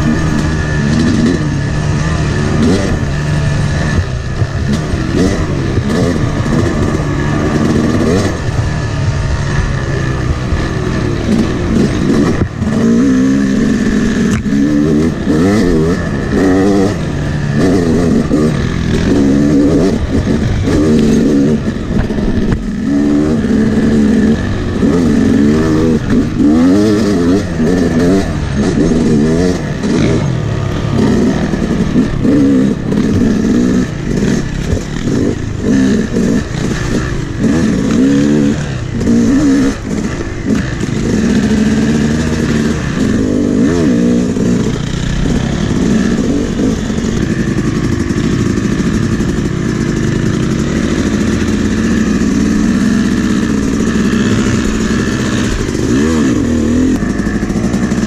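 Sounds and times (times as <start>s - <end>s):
two-stroke dirt bike revving: 0.0s - 58.0s.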